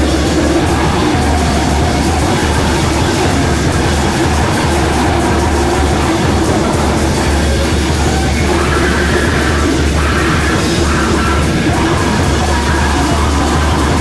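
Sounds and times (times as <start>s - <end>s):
distorted electric guitar noise: 0.0s - 14.0s
drums and percussion: 0.0s - 14.0s.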